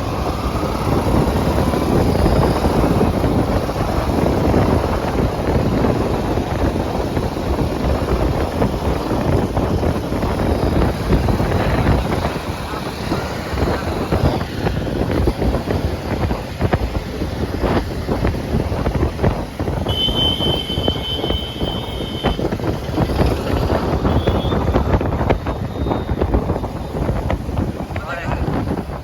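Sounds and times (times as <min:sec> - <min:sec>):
vehicle rumble: 0:00.0 - 0:29.0
wind buffeting microphone: 0:00.0 - 0:29.0.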